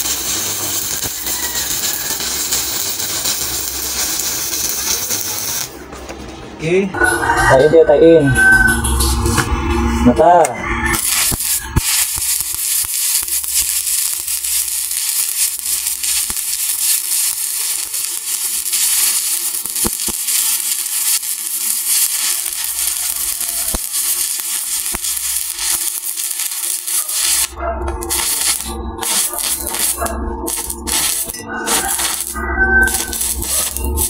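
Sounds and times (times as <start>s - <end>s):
welding arc crackling sizzle: 0.0s - 6.3s, 8.7s - 34.0s.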